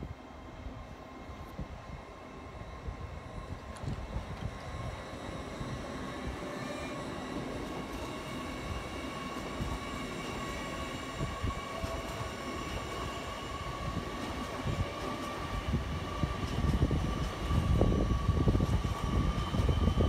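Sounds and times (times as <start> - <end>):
passing train rumble: 0.0 - 20.0
train whine: 0.0 - 20.0.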